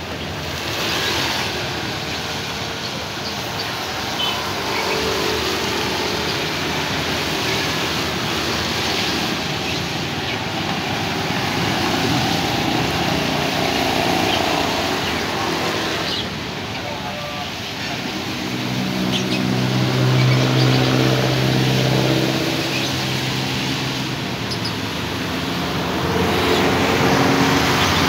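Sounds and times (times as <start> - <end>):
scooter and motorcycle engines: 0.0 - 28.0
tyres hissing on wet asphalt: 0.0 - 28.0.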